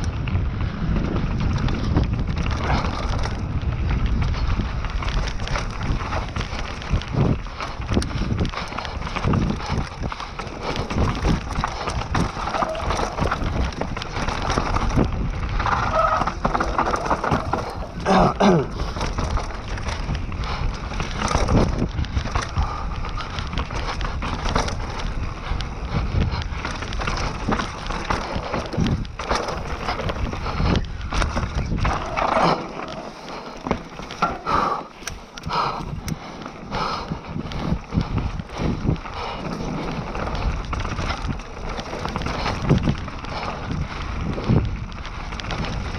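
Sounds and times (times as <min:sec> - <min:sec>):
bike knocking and rattling: 0:00.0 - 0:45.9
bike tyres rolling over dirt: 0:00.0 - 0:45.9
steady low rumble: 0:00.0 - 0:45.9.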